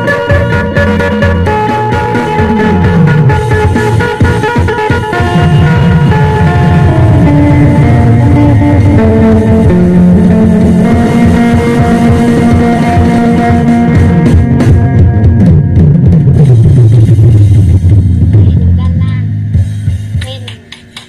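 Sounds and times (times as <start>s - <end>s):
electric plucked lute melody: 0.0s - 19.5s
steady drum beat: 0.0s - 21.0s.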